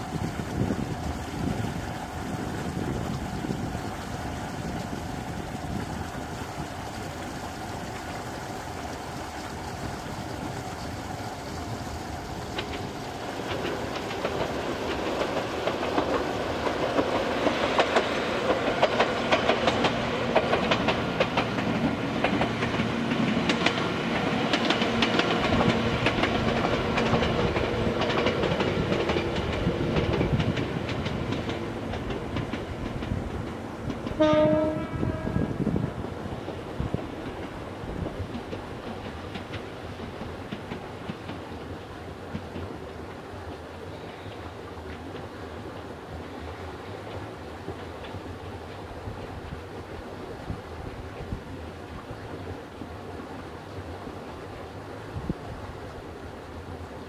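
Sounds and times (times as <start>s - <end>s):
train wheels clicking on rail joints: 0.0s - 57.0s.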